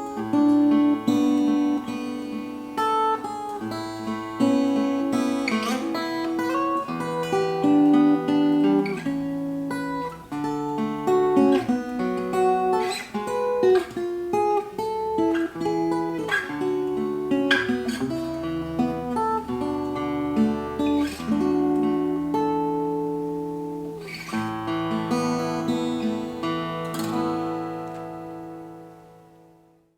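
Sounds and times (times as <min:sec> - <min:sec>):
acoustic guitar playing: 0:00.0 - 0:29.9.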